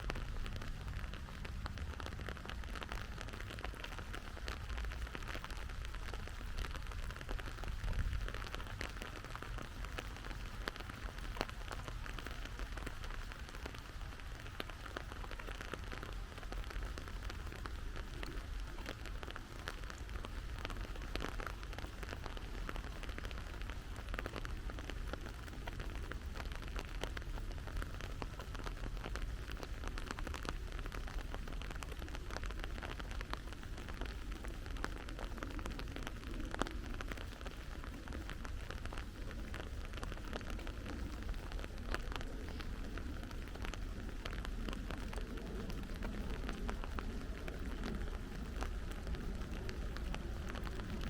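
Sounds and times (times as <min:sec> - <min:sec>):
rain falling: 0:00.0 - 0:51.0
raindrops ticking: 0:00.0 - 0:51.0.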